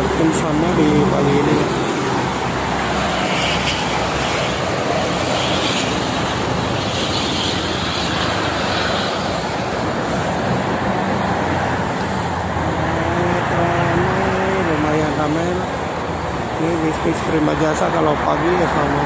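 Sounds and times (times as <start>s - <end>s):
busy road traffic: 0.0s - 19.0s.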